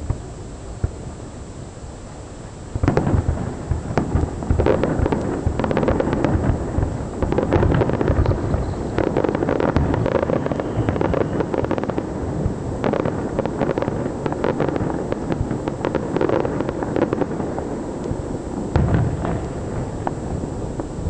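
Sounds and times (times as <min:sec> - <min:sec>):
fireworks booms and crackling pops: 0:00.0 - 0:01.7, 0:02.4 - 0:21.0.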